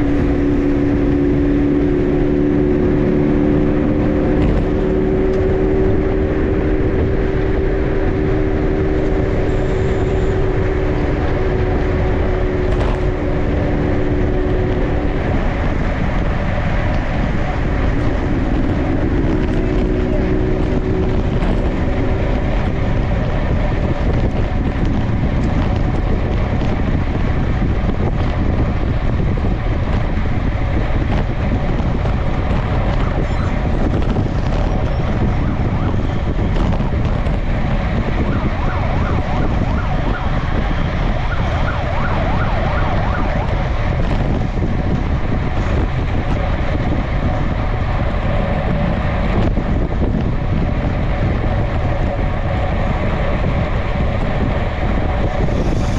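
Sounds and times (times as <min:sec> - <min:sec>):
bicycle tyre and road noise: 0:00.0 - 0:55.9
wind rushing over camera: 0:00.0 - 0:55.9.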